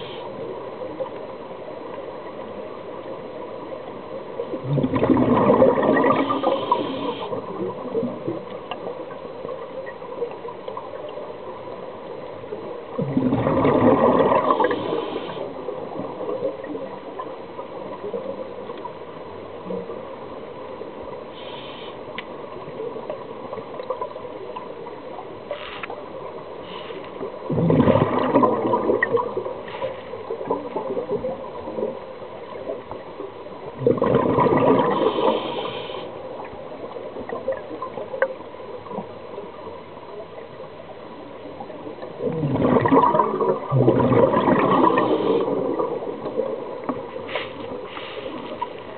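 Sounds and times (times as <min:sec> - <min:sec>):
exhaled air bubbling underwater: 0:00.0 - 0:48.9
steady underwater hiss: 0:00.0 - 0:48.9.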